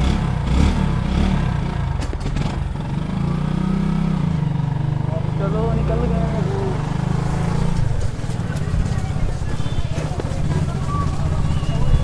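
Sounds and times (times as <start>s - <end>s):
motorcycle engine riding: 0.0s - 12.0s.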